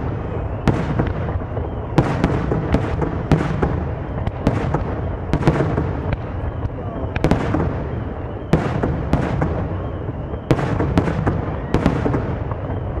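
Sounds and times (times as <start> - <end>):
rumble and echo of fireworks: 0.0 - 13.0.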